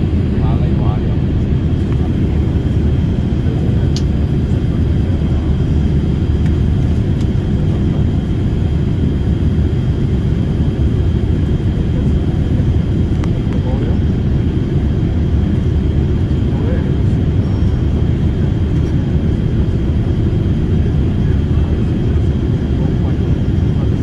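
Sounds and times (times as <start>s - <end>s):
engine and airflow rumble: 0.0s - 24.0s.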